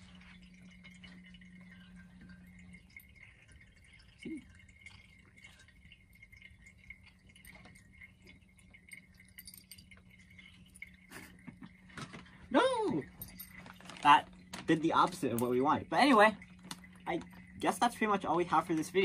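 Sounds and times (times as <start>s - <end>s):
pump humming: 0.0s - 19.0s
water trickling: 0.0s - 19.0s.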